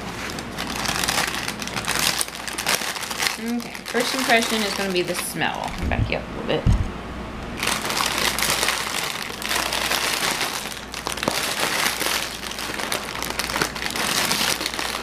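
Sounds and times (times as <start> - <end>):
plastic bag crinkling: 0.0 - 5.8, 7.6 - 15.0.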